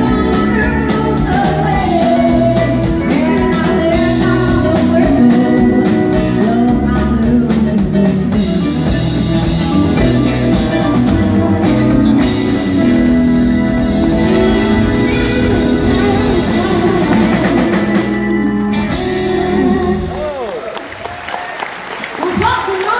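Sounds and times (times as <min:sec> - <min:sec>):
woman singing: 0:00.0 - 0:13.1, 0:14.0 - 0:20.1
live band playing: 0:00.0 - 0:22.9.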